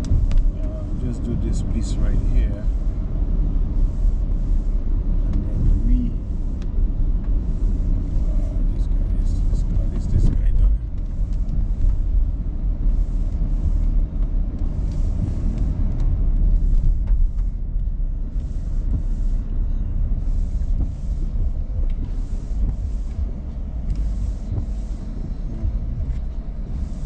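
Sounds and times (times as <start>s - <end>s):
car interior rumble: 0.0s - 27.0s
windshield wipers swishing: 0.0s - 27.0s.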